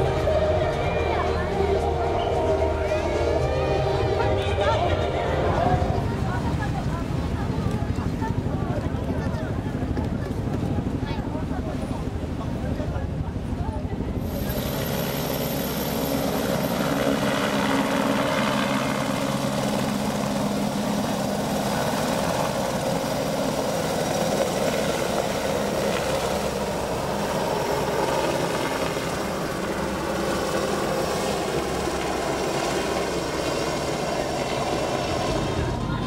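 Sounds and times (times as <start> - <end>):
helicopter flying: 0.0 - 36.0.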